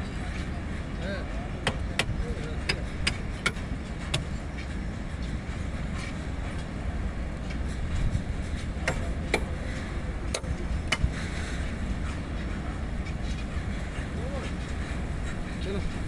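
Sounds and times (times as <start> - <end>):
wheels clicking over rail joints: 0.0 - 16.0
wheels rumbling on rails: 0.0 - 16.0.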